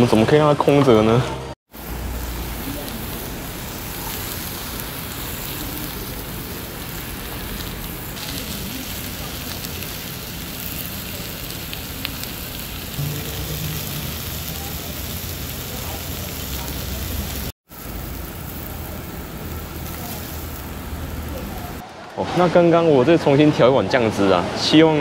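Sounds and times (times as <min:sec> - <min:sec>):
meat sizzling on a griddle: 0:01.7 - 0:21.8
metal tongs stir-frying: 0:01.8 - 0:21.8.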